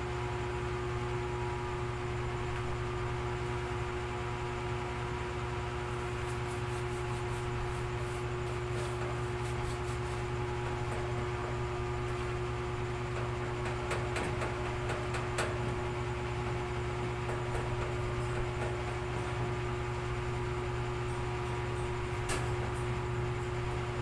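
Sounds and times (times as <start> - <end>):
mechanical hum and hiss: 0.0 - 24.0.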